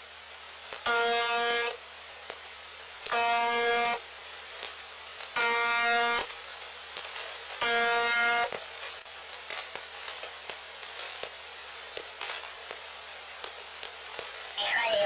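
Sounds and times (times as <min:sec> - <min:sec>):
radio static with clicks: 0:00.0 - 0:15.0.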